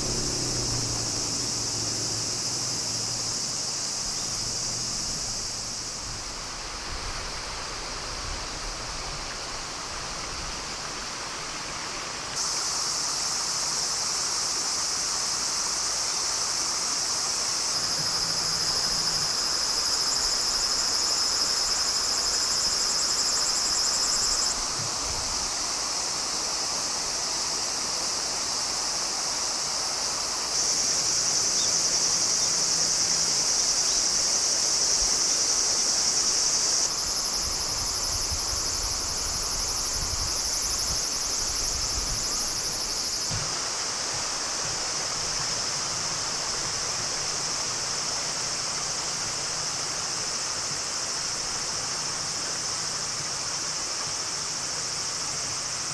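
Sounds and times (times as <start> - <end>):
crickets and insects chirring: 0.0 - 55.9
river rushing: 0.0 - 55.9.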